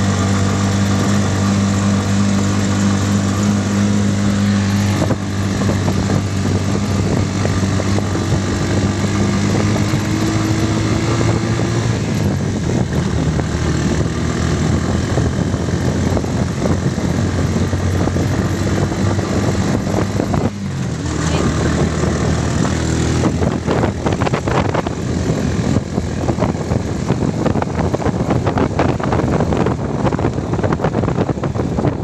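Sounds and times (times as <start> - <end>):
noisy rush: 0.0 - 32.0
vehicle engine running: 0.0 - 32.0.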